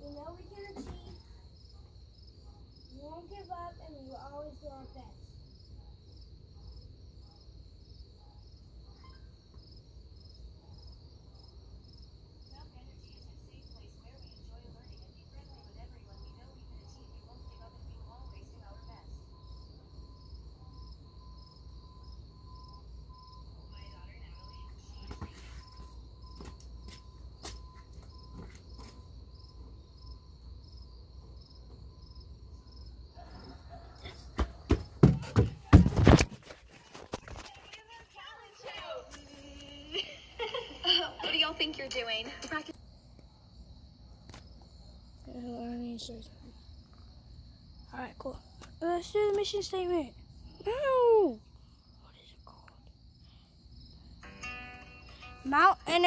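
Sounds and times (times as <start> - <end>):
crickets trilling and chirping: 0.0 - 56.0.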